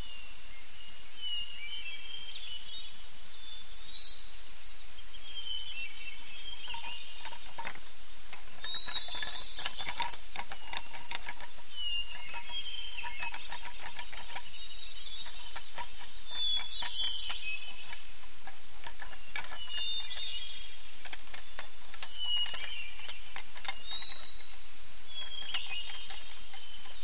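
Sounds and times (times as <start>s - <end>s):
background hiss: 0.0s - 27.0s
songbirds chirping: 0.0s - 27.0s.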